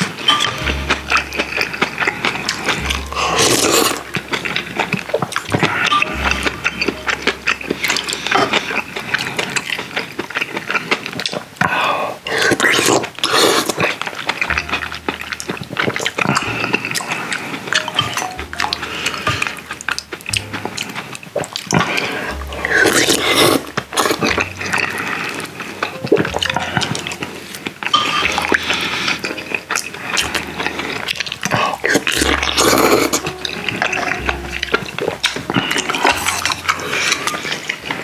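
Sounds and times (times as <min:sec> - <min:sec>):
wet mouth clicks and smacking: 0:00.0 - 0:11.7, 0:12.3 - 0:38.0
slurping and chewing: 0:00.0 - 0:38.0.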